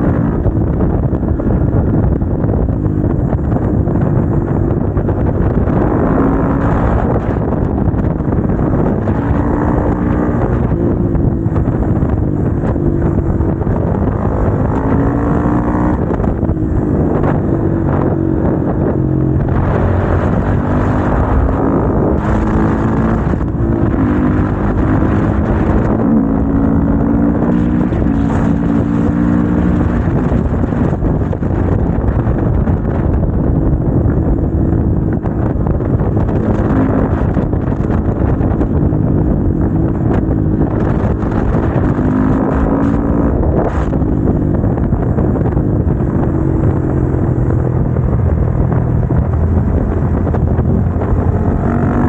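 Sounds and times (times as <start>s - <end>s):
motorcycle engine accelerating: 0.0s - 52.0s
wind noise on microphone: 0.0s - 52.0s.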